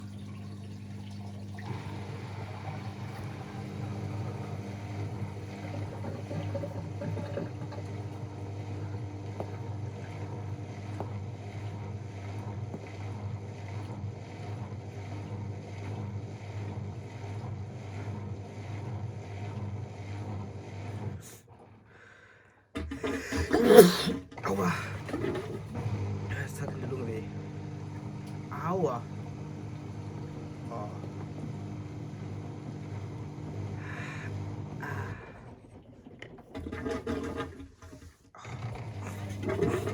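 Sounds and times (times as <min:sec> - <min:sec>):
water sloshing in washing machine: 0:00.0 - 0:22.0, 0:22.7 - 0:39.9
washing machine motor hum: 0:00.0 - 0:39.9.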